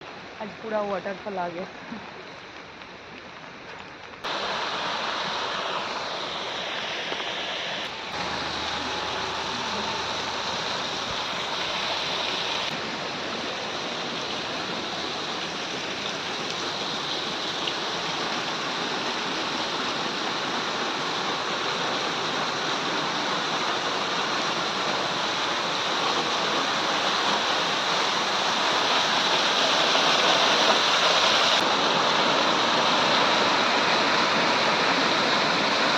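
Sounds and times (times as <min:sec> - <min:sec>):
waterfall rushing: 0:04.2 - 0:35.9.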